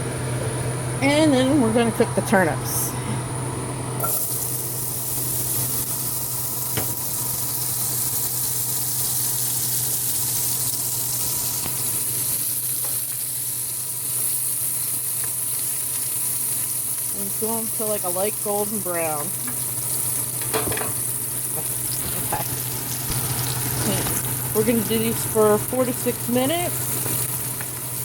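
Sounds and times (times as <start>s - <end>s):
vegetables sizzling in a pan: 4.0s - 28.0s.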